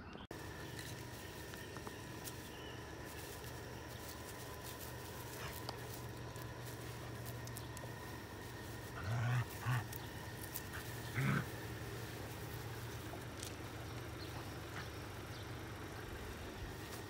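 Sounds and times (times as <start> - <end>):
dogs growling: 0.4 - 16.8.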